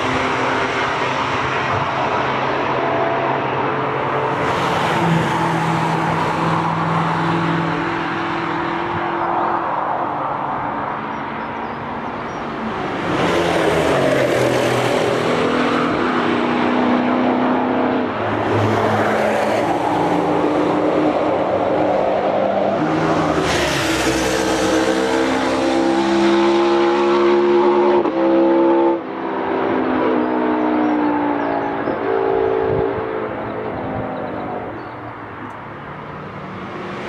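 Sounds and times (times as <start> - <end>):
race cars driving fast: 0.0 - 37.0.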